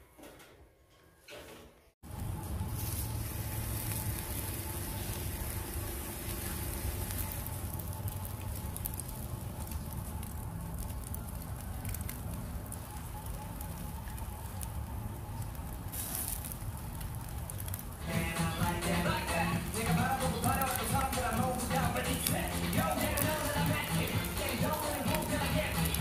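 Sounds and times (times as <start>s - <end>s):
fish sizzling on a grill: 2.2s - 26.0s.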